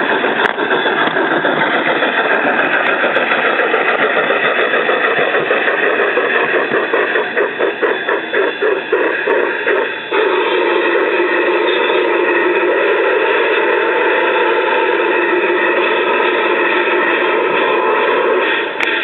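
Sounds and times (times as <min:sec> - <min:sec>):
model train rushing noise: 0:00.0 - 0:19.0
rhythmic steam chuffs: 0:00.0 - 0:19.0.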